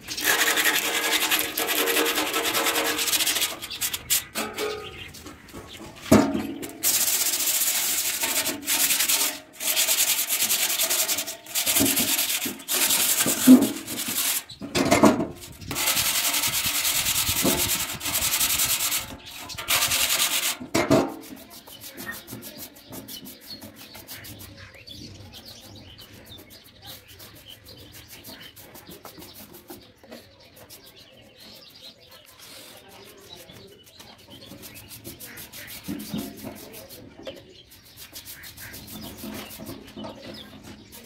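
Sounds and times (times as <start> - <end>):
paintbrush rubbing on steel: 0.0 - 14.6, 15.4 - 41.0
birds chirping faintly: 0.0 - 18.1, 18.7 - 41.0
sandpaper scratching on steel: 0.0 - 41.0.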